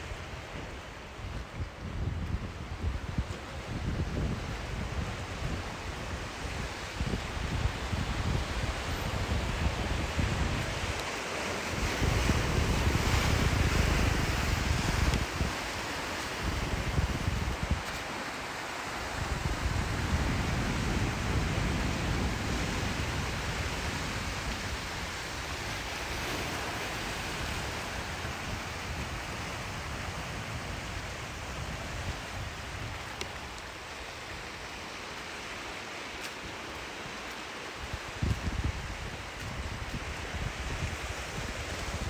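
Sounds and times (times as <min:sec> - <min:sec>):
ocean surf washing onto beach: 0:00.0 - 0:42.0
wind rumble on microphone: 0:00.0 - 0:42.0.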